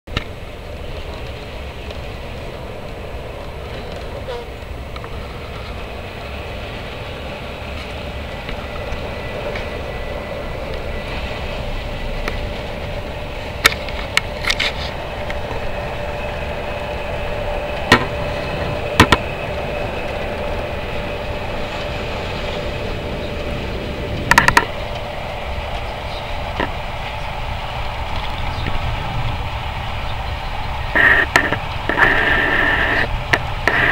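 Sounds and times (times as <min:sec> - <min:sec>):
faint steady hum: 0:00.1 - 0:33.9
train cabin rumble and hiss: 0:00.1 - 0:33.9.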